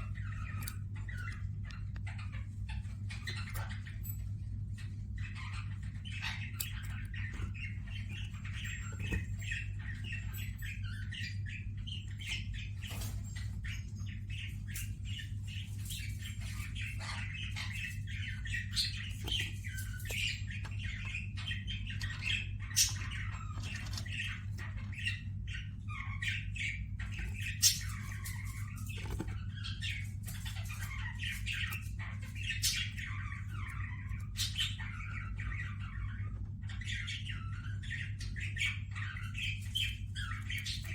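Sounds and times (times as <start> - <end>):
birds chattering and squawking: 0.0 - 40.9
steady low hum: 0.0 - 40.9.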